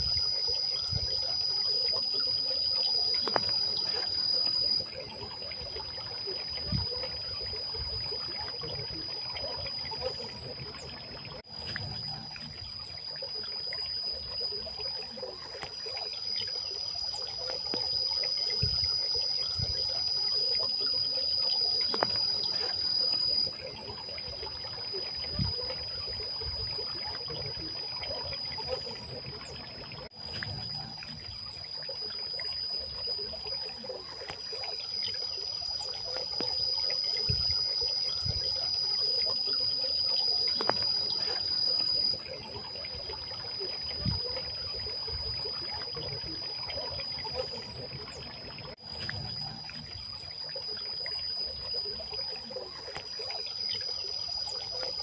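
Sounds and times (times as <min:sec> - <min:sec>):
steady high-pitched whine: 0:00.0 - 0:55.0
water splashing in stone fountain: 0:00.0 - 0:55.0.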